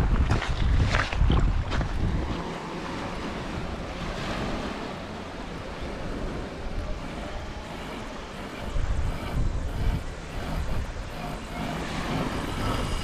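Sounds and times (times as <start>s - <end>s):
light wind: 0.0s - 13.0s.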